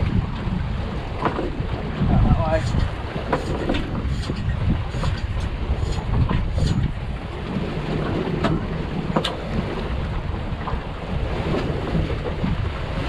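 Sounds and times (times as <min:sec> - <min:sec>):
outboard motors running: 0:00.0 - 0:13.0
wind buffeting microphone: 0:00.0 - 0:13.0.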